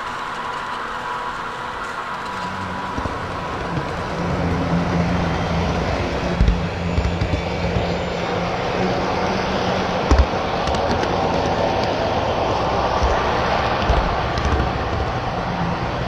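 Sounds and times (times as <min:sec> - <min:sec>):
model train motor hum: 0:00.0 - 0:16.0
wheel and track noise: 0:00.0 - 0:16.0.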